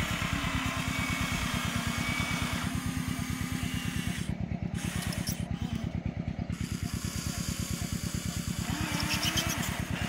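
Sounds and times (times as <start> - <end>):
model excavator engine chugging: 0.0 - 10.0
motor whine: 0.0 - 10.0.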